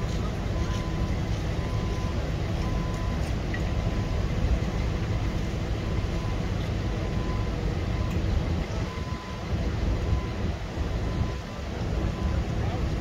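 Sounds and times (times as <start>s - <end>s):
locomotive low rumble: 0.0s - 13.0s.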